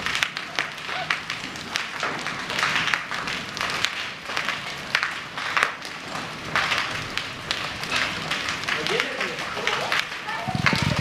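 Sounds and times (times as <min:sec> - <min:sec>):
hailstones pelting: 0:00.0 - 0:11.0.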